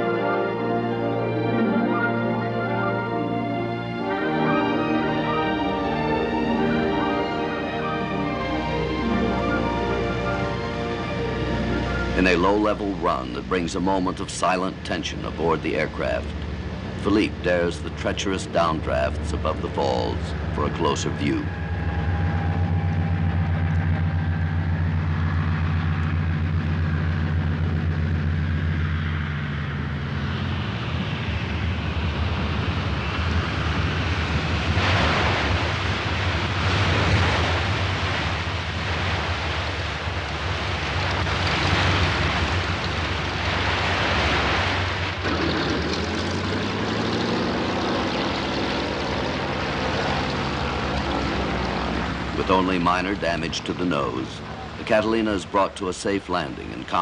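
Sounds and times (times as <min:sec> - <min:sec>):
aircraft engines droning: 0:00.0 - 0:57.0
water rushing and spray: 0:00.0 - 0:57.0.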